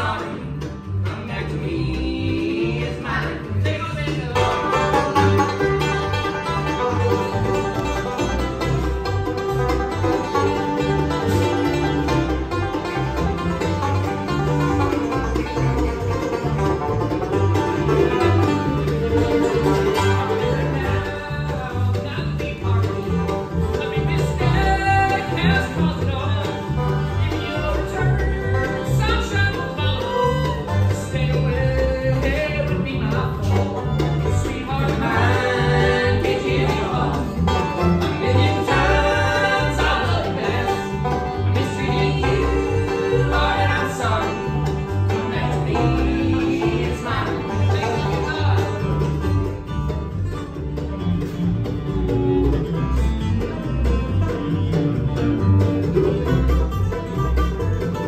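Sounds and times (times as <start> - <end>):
banjo: 0.0 - 58.0
bass beat: 0.0 - 58.0
guitar: 0.0 - 58.0.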